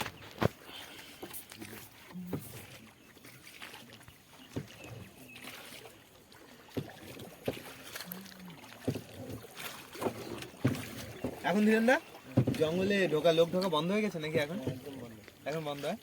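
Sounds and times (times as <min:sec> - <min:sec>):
oar stroke knocking: 0:00.0 - 0:15.9
faint water: 0:00.0 - 0:16.0.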